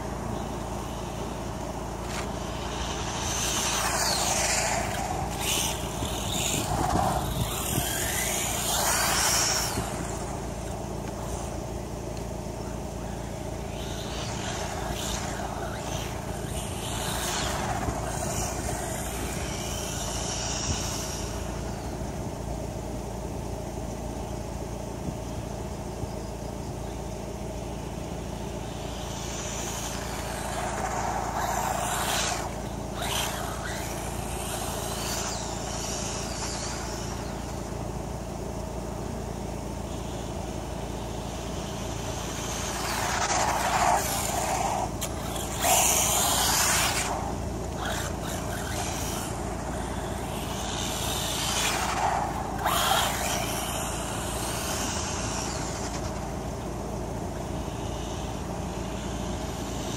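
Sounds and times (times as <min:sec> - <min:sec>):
rc car motor whine: 0:00.0 - 0:59.9.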